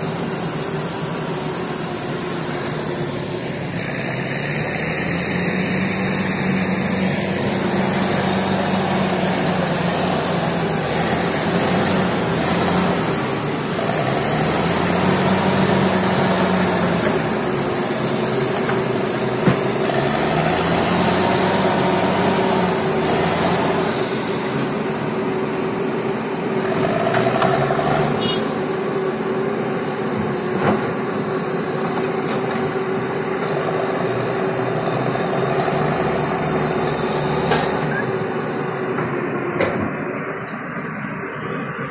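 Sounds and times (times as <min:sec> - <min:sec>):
excavator diesel engine working: 0:00.0 - 0:41.9.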